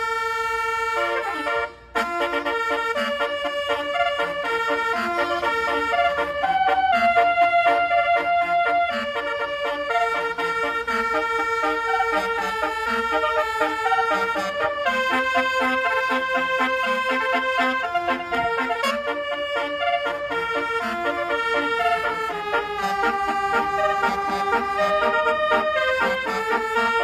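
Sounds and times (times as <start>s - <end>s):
musical air horn playing a tune: 0.0s - 27.0s.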